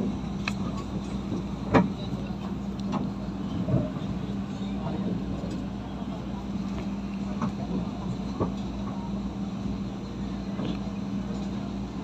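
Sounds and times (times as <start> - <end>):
diesel train drone and rumble: 0.0 - 12.0.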